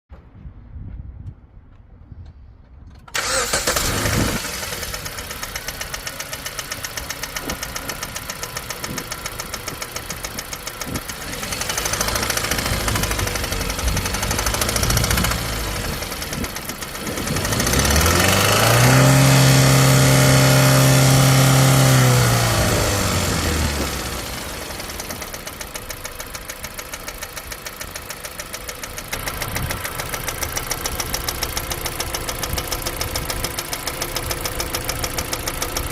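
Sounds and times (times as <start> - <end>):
car engine starting and idling: 2.9 - 35.9
engine ticking: 3.0 - 35.9
engine revving: 3.2 - 35.9.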